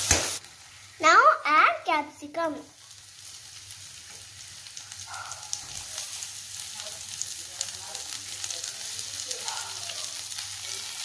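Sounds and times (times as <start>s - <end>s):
capsicum sizzling in hot oil: 0.0s - 11.0s.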